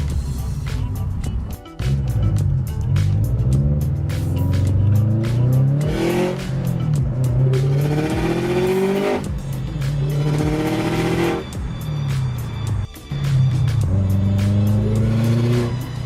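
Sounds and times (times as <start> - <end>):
car engine accelerating: 1.8 - 16.0.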